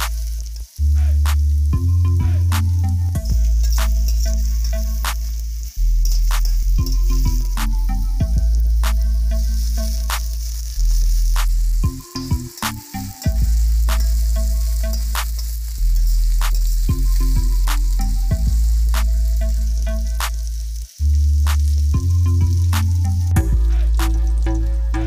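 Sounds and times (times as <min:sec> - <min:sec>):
music with deep bass and beat: 0:00.0 - 0:25.0
vegetables sizzling in a wok: 0:00.0 - 0:25.0.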